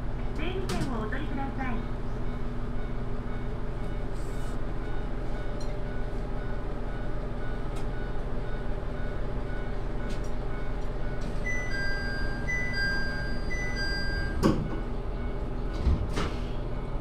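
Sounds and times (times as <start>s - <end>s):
diesel railcar engine drone: 0.0s - 17.0s.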